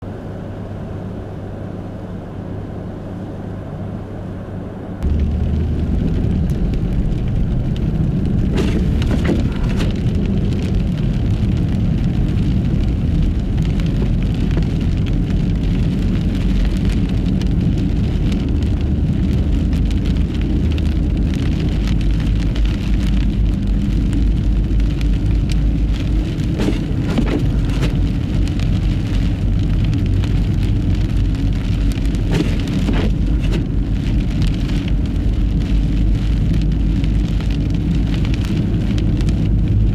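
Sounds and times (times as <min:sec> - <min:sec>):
tyre and road noise: 0:04.8 - 0:39.9
wind-driven snow pattering: 0:05.0 - 0:39.9.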